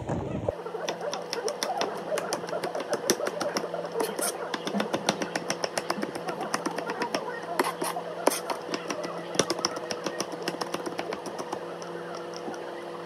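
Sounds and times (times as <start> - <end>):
knife chopping on cutting board: 0.9 - 11.6.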